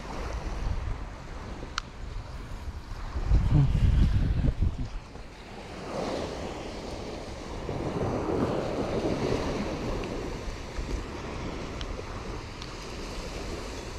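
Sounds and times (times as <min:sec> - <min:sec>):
surf washing onto beach: 0:00.0 - 0:13.9
wind gusts on microphone: 0:00.0 - 0:13.9.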